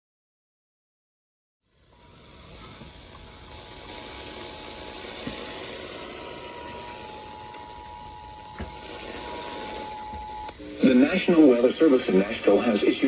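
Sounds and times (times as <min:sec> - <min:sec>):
radio static and hiss: 0:02.0 - 0:13.0.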